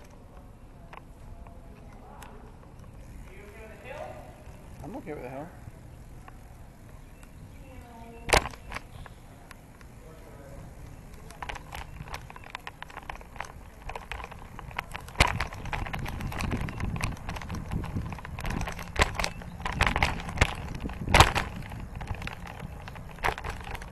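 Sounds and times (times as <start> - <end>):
bicycle rattling over pavement: 0.0 - 23.9.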